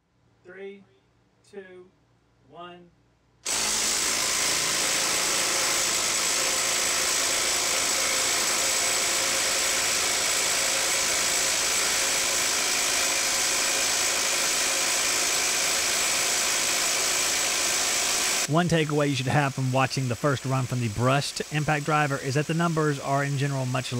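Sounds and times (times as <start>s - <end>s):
impact driver hammering: 3.5s - 23.9s.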